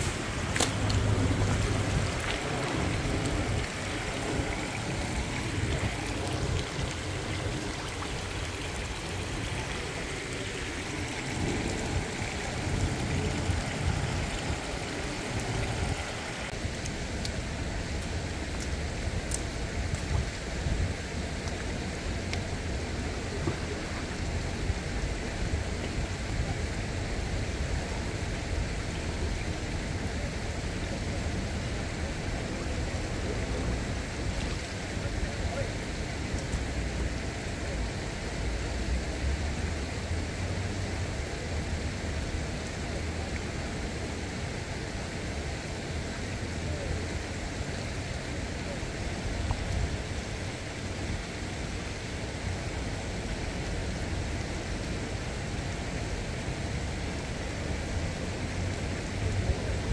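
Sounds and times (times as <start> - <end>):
river water splashing over stones: 0.0 - 59.9.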